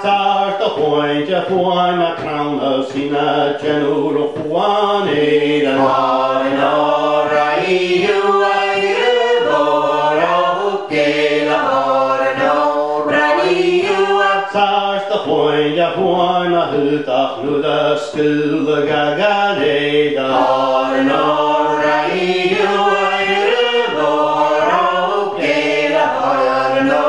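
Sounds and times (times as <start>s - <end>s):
group singing unaccompanied: 0.0s - 27.0s.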